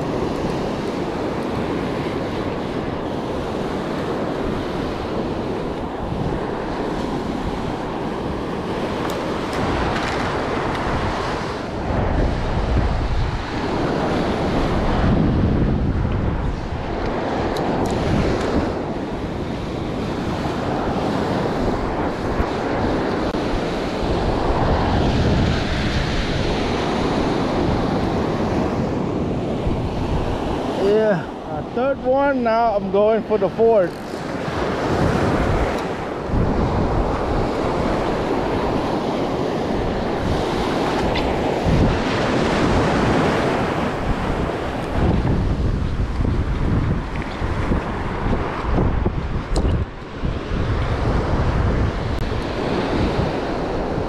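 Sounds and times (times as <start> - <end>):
surf washing onto beach: 0.0 - 54.0
wind buffeting microphone: 0.0 - 54.0.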